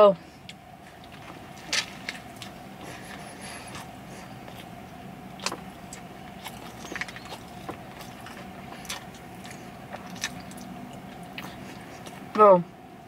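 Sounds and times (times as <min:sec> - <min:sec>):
faint steady hum: 0:00.0 - 0:13.0
person chewing crunchy food: 0:00.4 - 0:12.4.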